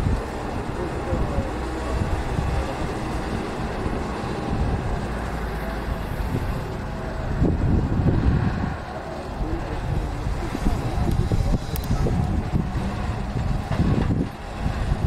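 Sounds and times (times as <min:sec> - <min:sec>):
distant diesel engine running: 0:00.0 - 0:15.0
wind rumbling on microphone: 0:00.0 - 0:15.0.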